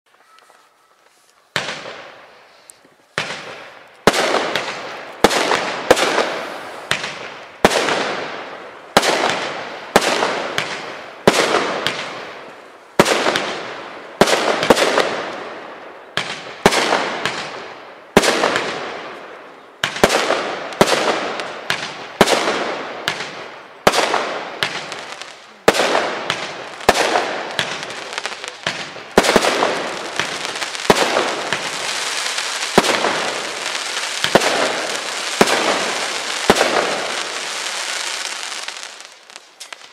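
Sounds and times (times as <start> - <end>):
firework crackle: 0.1 - 39.9
firework bangs: 1.5 - 2.4, 3.1 - 39.9.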